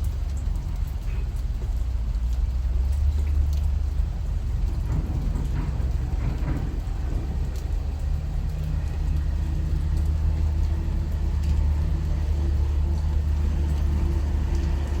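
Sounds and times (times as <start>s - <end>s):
large engine droning: 0.0s - 15.0s
rain ticking: 0.0s - 15.0s.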